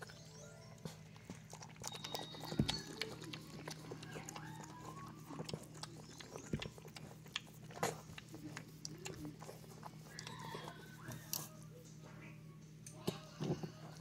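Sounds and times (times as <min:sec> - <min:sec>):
dog licking and chewing: 0:00.0 - 0:11.6.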